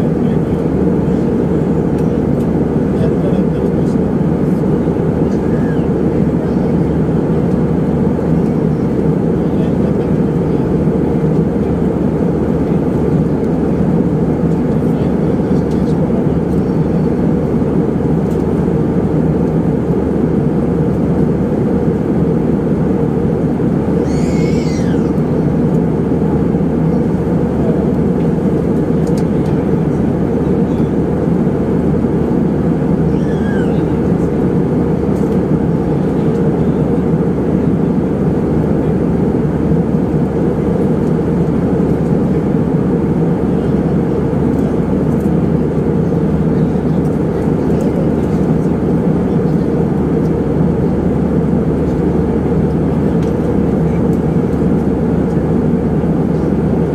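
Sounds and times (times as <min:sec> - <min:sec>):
jet engine drone and rushing air: 0:00.0 - 0:56.9.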